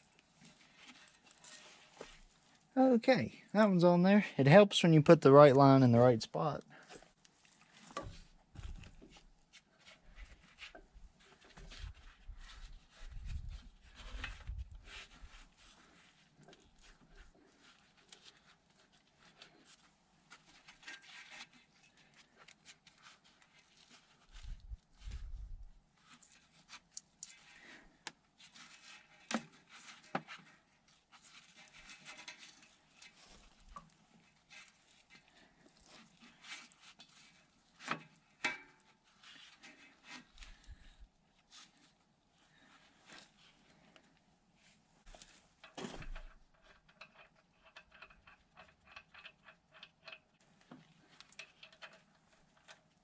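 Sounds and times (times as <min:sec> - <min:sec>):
rustles: 0:00.0 - 0:02.7, 0:06.7 - 0:53.0
light rubbing and scraping: 0:00.2 - 0:02.7, 0:06.8 - 0:53.0.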